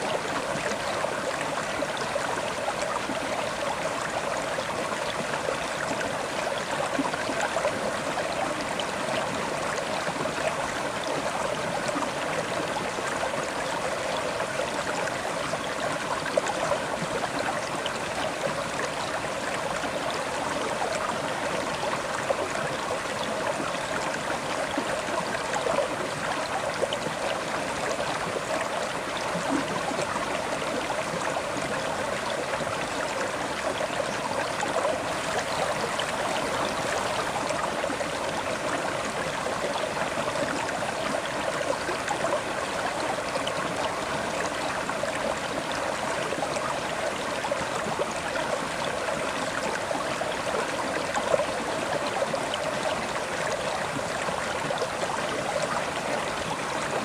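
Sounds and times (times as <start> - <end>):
river water flowing over stones: 0.0 - 57.0.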